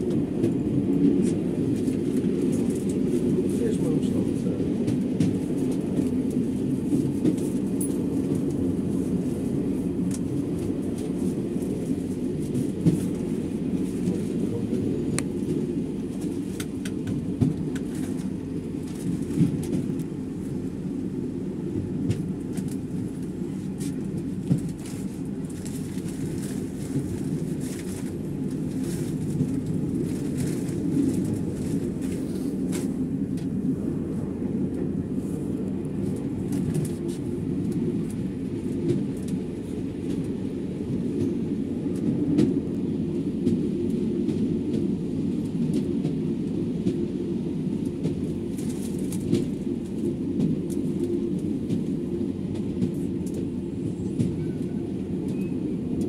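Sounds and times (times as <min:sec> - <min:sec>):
train rumbling on track: 0:00.0 - 0:56.0
train wheels clicking on rails: 0:00.0 - 0:56.0.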